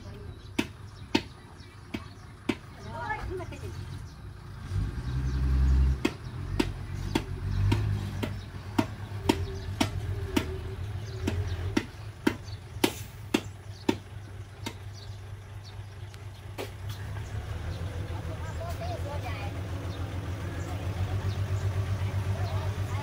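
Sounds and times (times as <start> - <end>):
diesel truck engine running low: 0.0 - 23.0.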